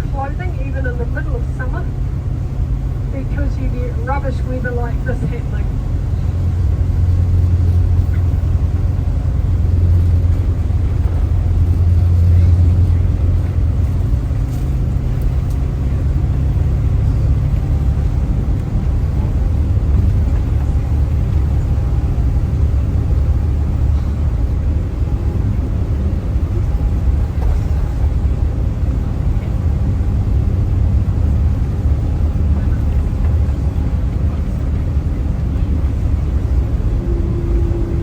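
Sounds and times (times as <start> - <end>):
vehicle engine and tyre rumble: 0.0 - 38.0.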